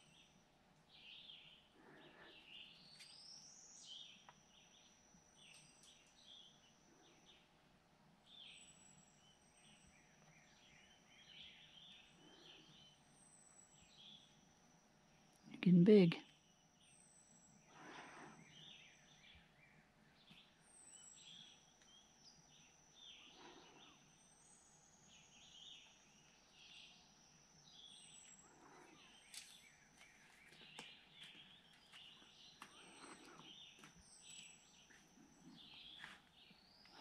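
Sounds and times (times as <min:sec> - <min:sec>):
bird chirping: 0:00.0 - 0:07.5, 0:08.2 - 0:14.4, 0:15.7 - 0:37.0.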